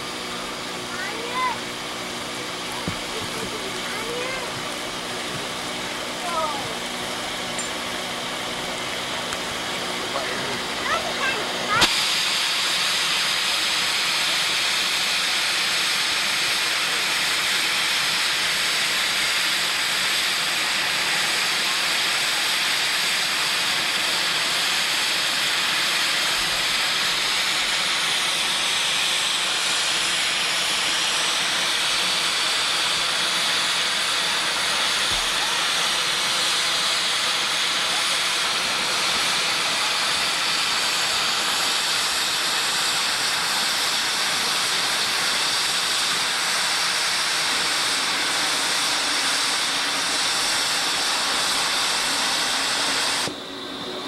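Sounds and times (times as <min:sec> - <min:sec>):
steam locomotive hissing steam: 0:00.0 - 0:54.0.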